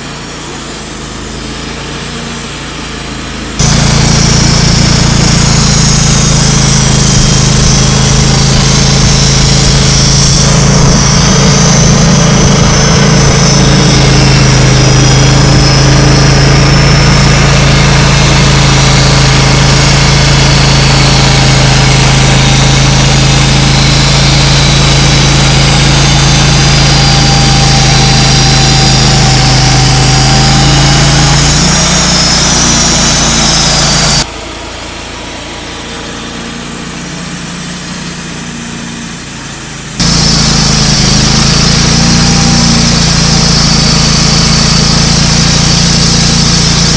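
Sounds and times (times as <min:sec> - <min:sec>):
sawmill engine humming: 0:00.0 - 0:46.9.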